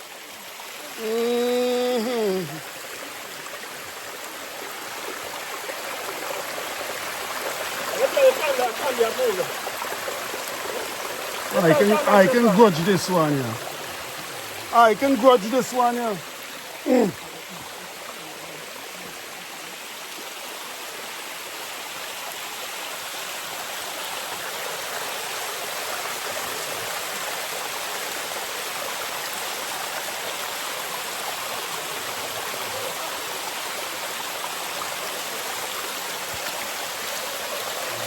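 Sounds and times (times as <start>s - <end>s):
water running over rocks: 0.0s - 38.0s.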